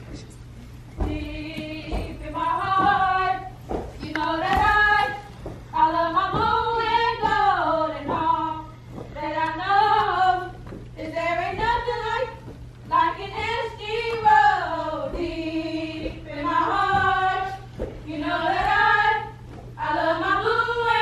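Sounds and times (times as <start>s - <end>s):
women singing together: 0.9s - 21.0s.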